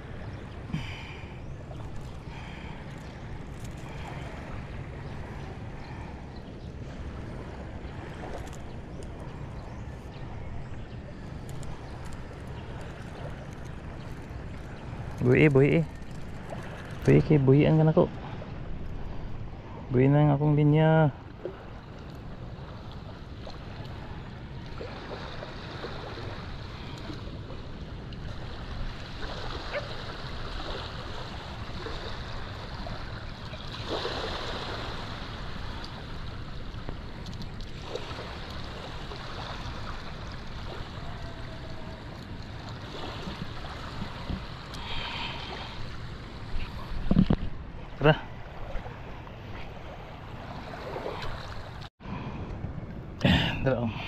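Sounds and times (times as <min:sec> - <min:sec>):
low wind rumble: 0:00.0 - 0:54.0
moving water: 0:00.0 - 0:54.0.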